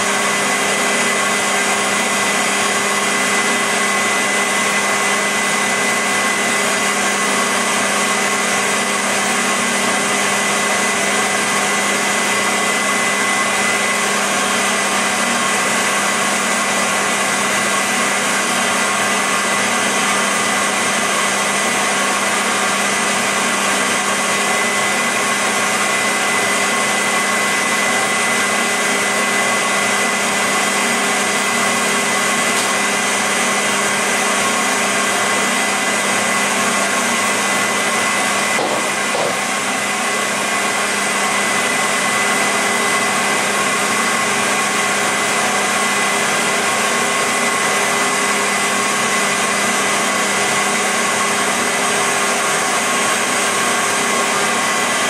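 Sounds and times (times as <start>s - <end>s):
vacuum cleaner motor hum: 0.0s - 55.0s.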